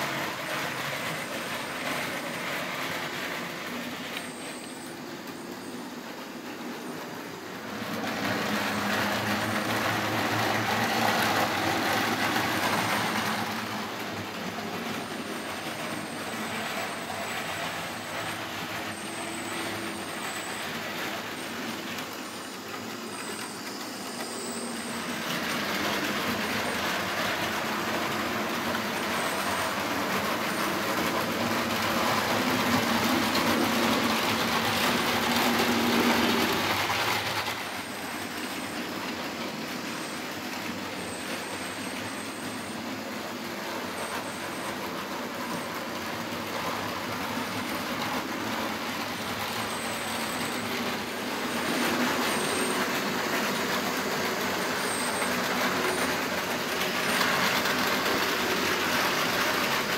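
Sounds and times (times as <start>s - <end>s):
model train motor hum: 0.0s - 59.9s
wheels rumbling on track: 0.0s - 59.9s.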